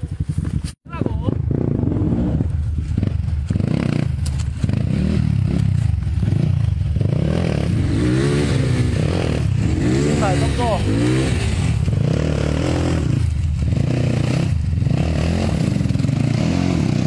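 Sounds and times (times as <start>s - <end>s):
dirt bike engine revving: 1.1s - 17.0s.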